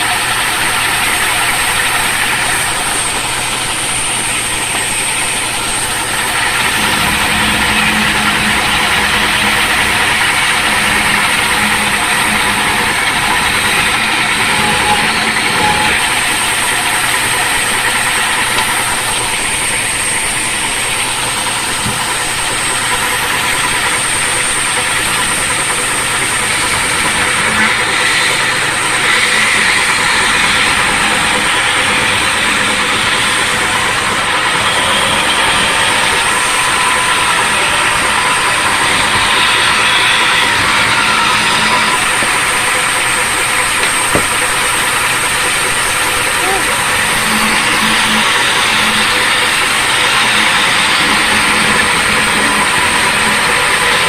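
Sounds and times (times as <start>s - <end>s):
machinery running: 0.0s - 54.0s
thin high whine: 0.0s - 54.0s.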